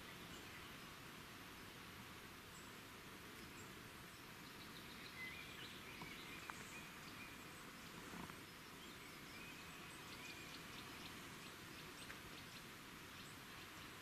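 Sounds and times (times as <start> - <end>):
faint outdoor hiss: 0.0 - 14.0
soft bird chirps: 2.5 - 14.0.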